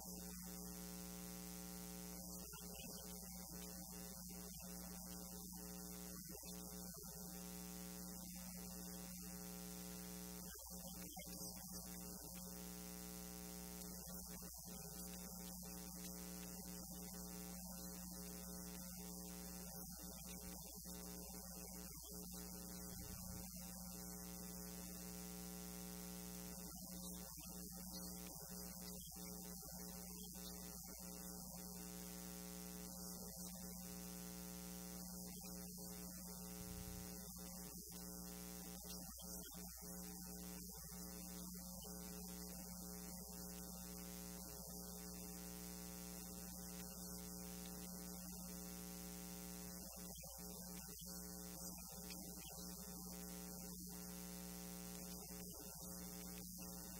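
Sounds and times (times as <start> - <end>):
electrical mains hum: 0.0 - 56.9.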